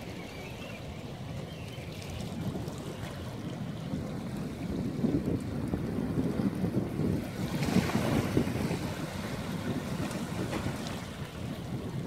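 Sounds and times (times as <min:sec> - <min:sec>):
waves lapping on rocks: 0:00.0 - 0:12.0
wind buffeting microphone: 0:00.0 - 0:12.0.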